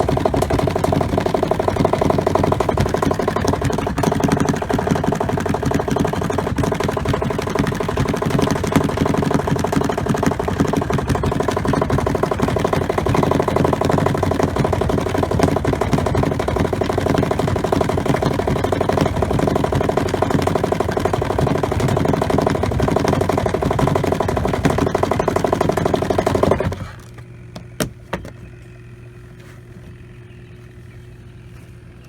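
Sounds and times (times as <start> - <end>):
washing machine spin rattling hum: 0.0 - 32.0.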